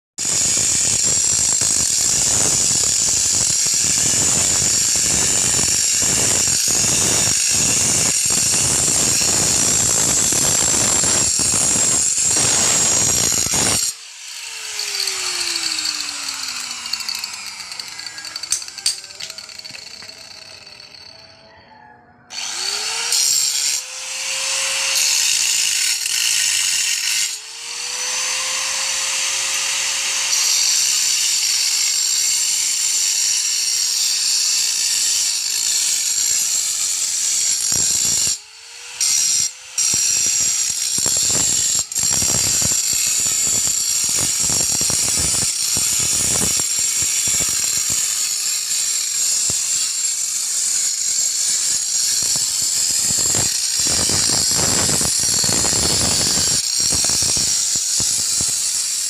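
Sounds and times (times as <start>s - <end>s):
power tool grinding stone: 0.2s - 21.2s, 22.3s - 59.0s.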